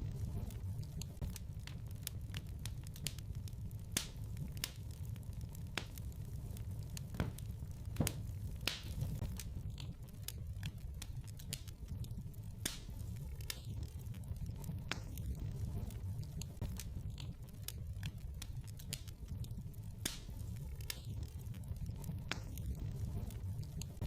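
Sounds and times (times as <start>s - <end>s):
wood fire crackling: 0.0s - 24.0s
pops and snaps from fire: 0.1s - 24.0s.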